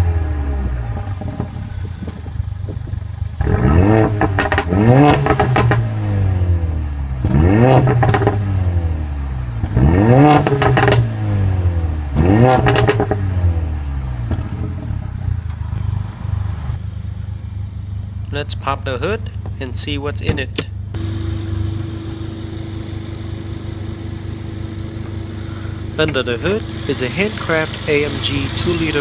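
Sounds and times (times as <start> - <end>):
car engine idling and revving: 0.0 - 29.0
exhaust crackles: 0.0 - 29.0.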